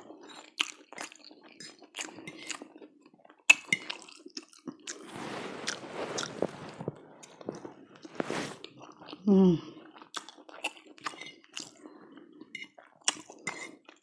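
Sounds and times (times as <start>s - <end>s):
wet chewing: 0.3s - 6.4s, 7.2s - 14.0s.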